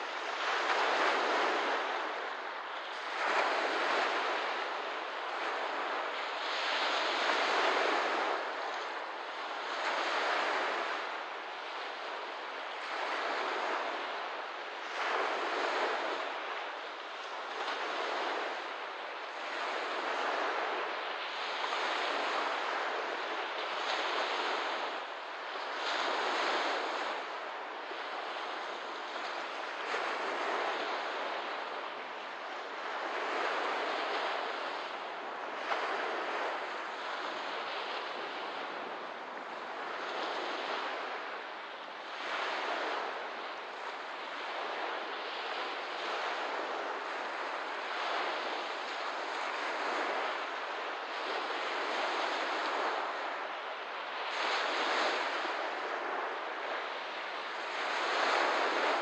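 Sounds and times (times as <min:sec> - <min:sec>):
small waves washing onto shore: 0:00.0 - 0:59.0.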